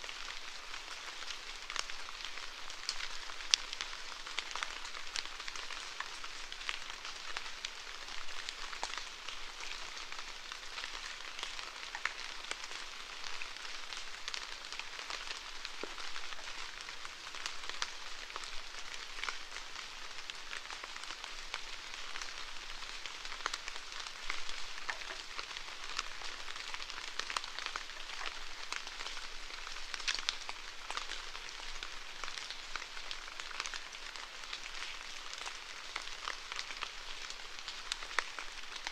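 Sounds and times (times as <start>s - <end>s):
steady rain falling: 0.0s - 38.9s
raindrops ticking: 0.1s - 38.9s.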